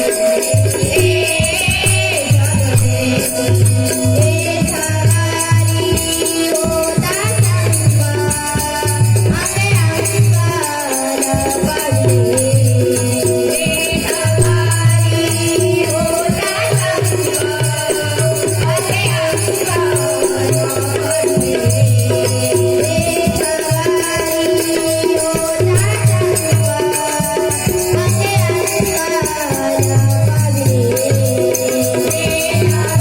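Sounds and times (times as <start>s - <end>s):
fast rattling percussion: 0.0s - 33.0s
people singing: 0.0s - 33.0s.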